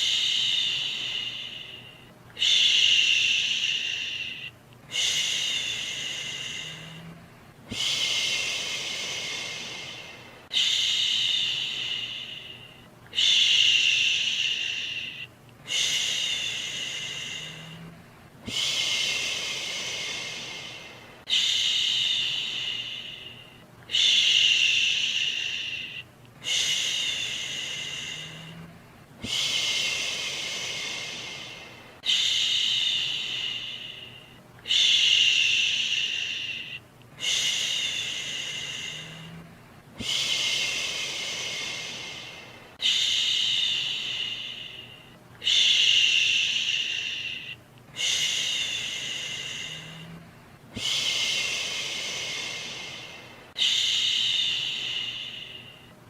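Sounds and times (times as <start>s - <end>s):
person shushing: 0.0s - 50.2s
faint steady hiss: 0.0s - 56.0s.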